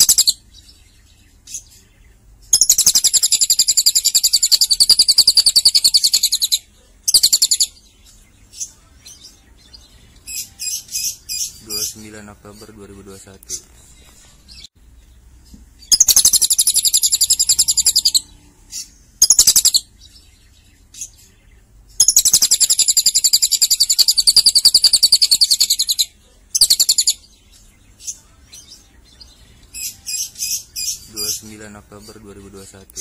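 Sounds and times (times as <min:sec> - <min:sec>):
lovebird high-pitched trills: 0:00.0 - 0:01.8, 0:02.5 - 0:12.0, 0:15.8 - 0:21.1, 0:22.0 - 0:32.2.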